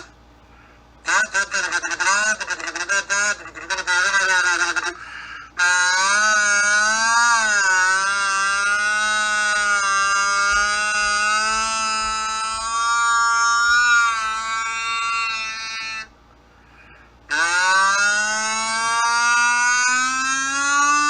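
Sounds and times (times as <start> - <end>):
kazoo buzzing held note: 1.1 - 16.1, 16.8 - 21.0.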